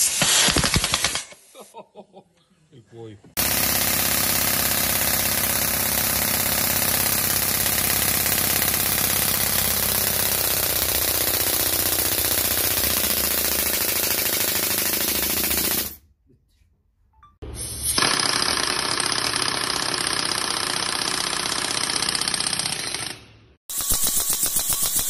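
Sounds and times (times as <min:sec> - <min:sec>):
pneumatic air hammer hammering: 0:00.0 - 0:01.4, 0:03.4 - 0:16.0, 0:17.6 - 0:25.0.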